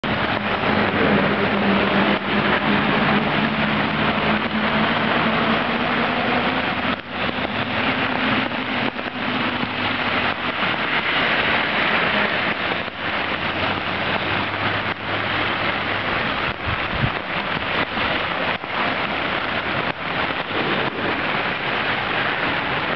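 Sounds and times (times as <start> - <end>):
flood water rushing: 0.0 - 22.9.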